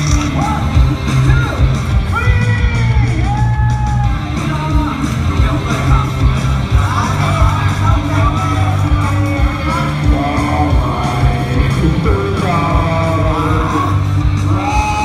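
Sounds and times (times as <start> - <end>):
rock music with vocals: 0.0 - 15.0.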